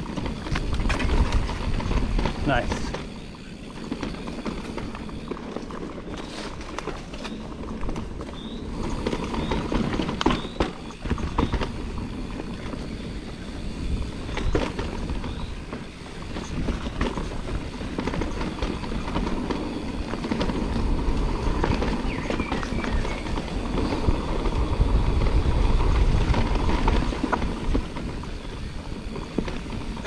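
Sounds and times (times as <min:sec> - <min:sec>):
bike knocking and rattling: 0:00.0 - 0:30.0
rush of wind and tyres: 0:00.0 - 0:30.0.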